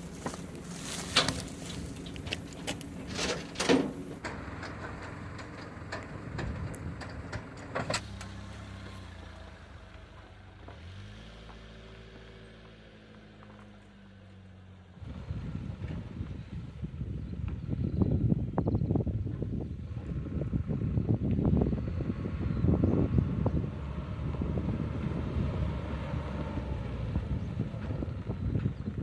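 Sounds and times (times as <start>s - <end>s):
engine knocks and clatter: 0.0s - 29.0s.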